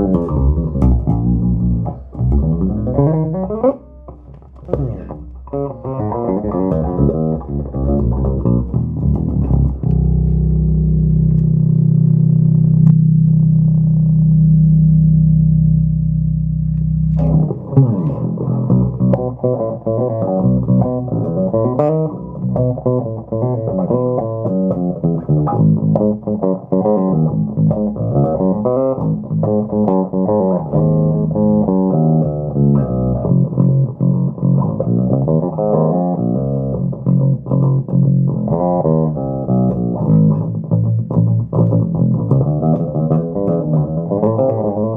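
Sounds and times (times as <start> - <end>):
electric bass playing: 0.0 - 44.9.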